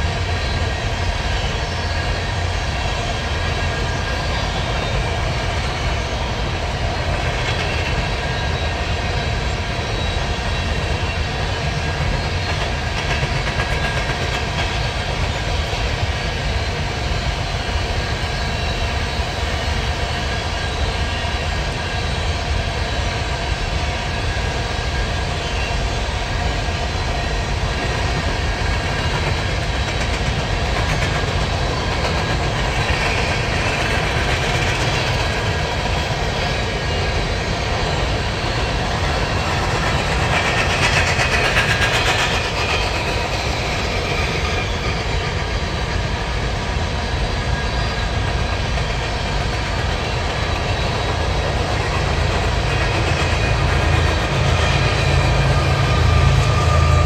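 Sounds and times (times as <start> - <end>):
locomotive rumble: 0.0 - 57.0.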